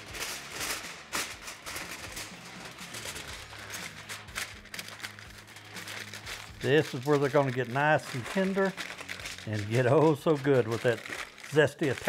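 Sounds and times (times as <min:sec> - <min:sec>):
aluminum foil crinkling: 0:00.0 - 0:12.0.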